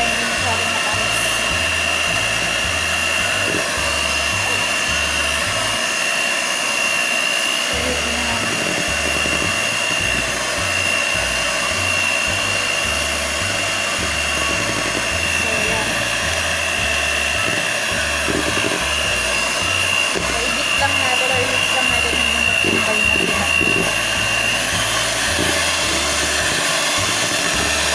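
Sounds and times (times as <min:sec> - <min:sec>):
electric hand mixer whirring: 0:00.0 - 0:27.9.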